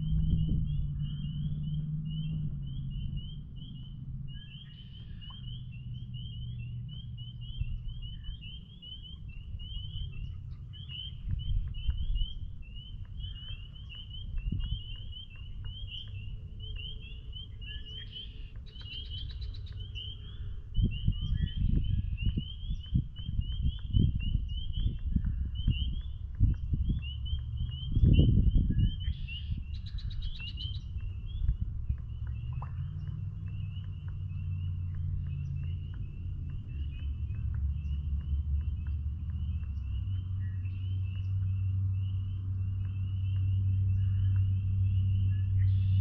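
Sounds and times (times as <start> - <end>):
low rumble: 0.0 - 46.0
spring peepers peeping: 0.0 - 46.0.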